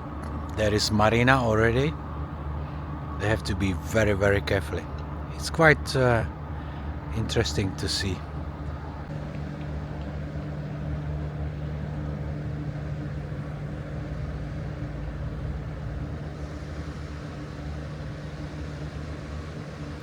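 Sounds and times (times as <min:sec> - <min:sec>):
ship engines droning: 0:00.0 - 0:20.0.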